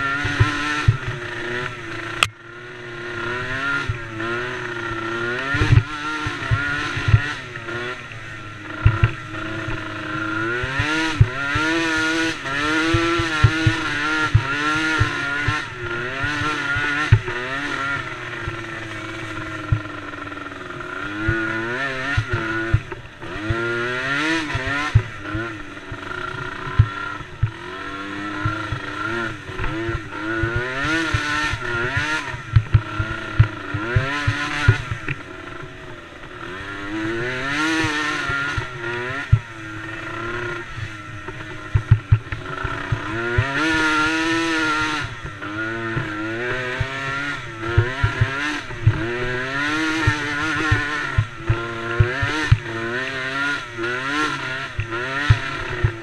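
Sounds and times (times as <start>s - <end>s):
racing engines revving: 0.0s - 56.0s.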